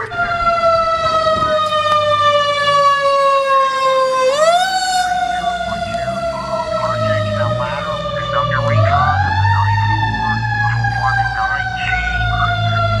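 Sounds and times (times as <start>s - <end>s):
fire engine siren wailing: 0.0s - 13.0s.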